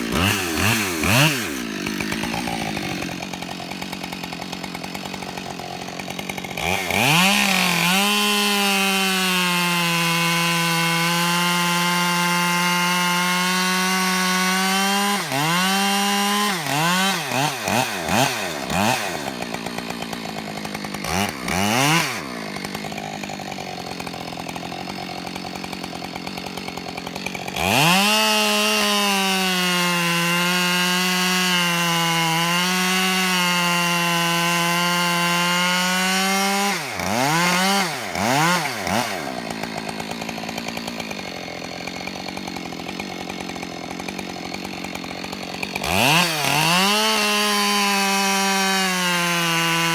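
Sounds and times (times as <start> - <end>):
chainsaw cutting log: 0.0 - 49.9
chainsaw revving and idling: 0.0 - 49.9.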